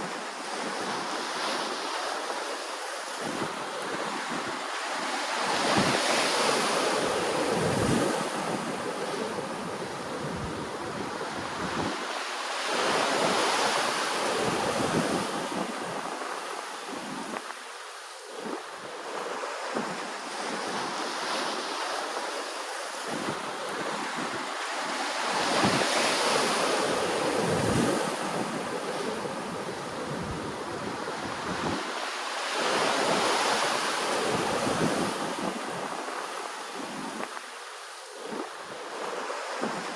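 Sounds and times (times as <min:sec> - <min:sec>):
ocean waves washing ashore: 0:00.0 - 0:39.9
wind buffeting microphone: 0:03.1 - 0:17.7, 0:18.4 - 0:37.5.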